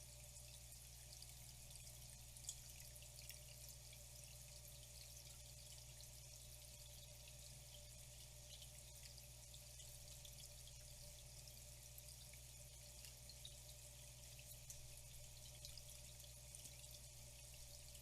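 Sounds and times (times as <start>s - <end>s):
trickling water with drips: 0.0s - 18.0s.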